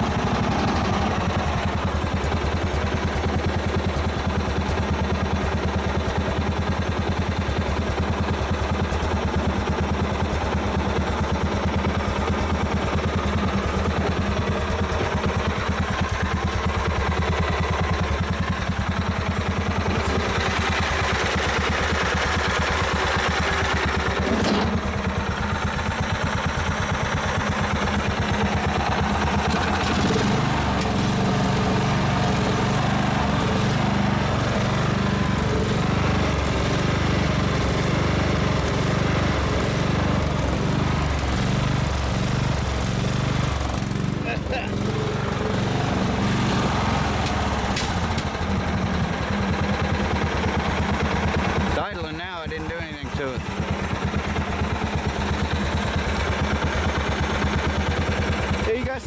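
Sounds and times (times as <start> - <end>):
mower engine pulsing: 0.0 - 59.0.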